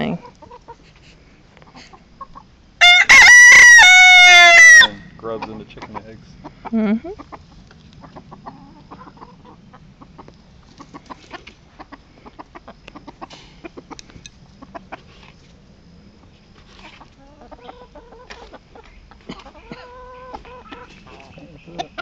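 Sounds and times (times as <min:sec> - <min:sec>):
hens clucking: 0:00.0 - 0:15.6, 0:16.2 - 0:22.0.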